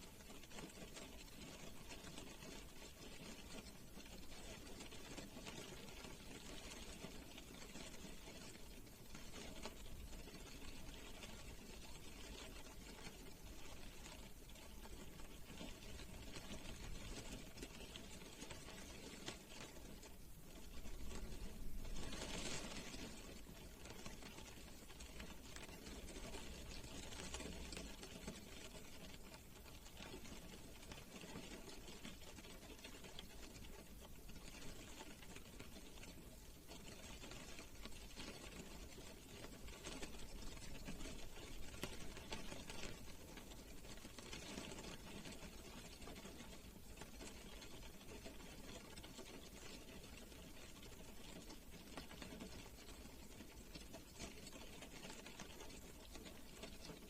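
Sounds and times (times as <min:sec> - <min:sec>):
rain pattering on a car: 0:00.0 - 0:57.0.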